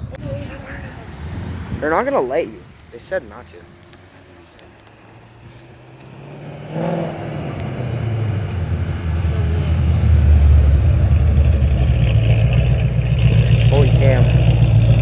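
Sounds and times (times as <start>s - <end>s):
cammed car engine rumbling: 0.0s - 15.0s.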